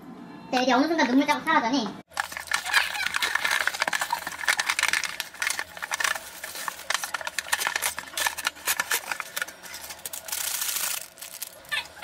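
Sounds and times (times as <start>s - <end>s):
plastic wrap and paper lid crinkling: 2.1s - 12.0s.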